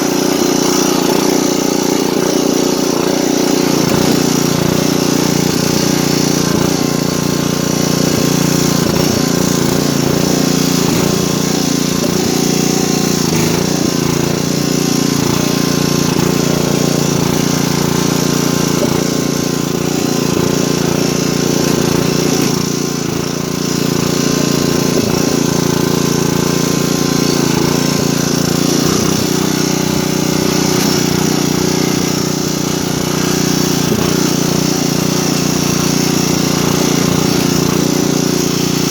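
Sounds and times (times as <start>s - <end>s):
riding lawn mower engine running: 0.0s - 38.9s.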